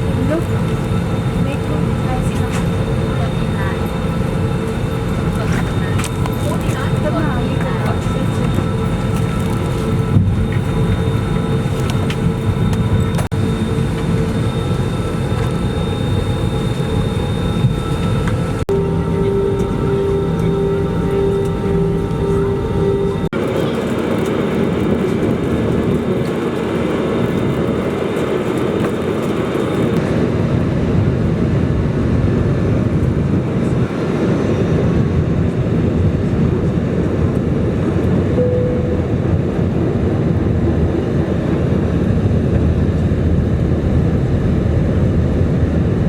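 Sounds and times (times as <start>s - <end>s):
airliner cabin engine and airflow noise: 0.0s - 46.0s.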